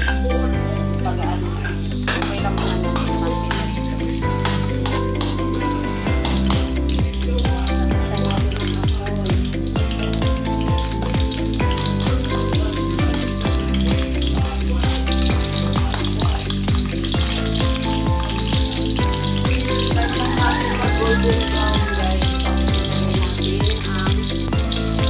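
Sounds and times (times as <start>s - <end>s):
music with drum beat and bass: 0.0s - 25.0s
garlic sizzling in oil: 0.9s - 25.0s.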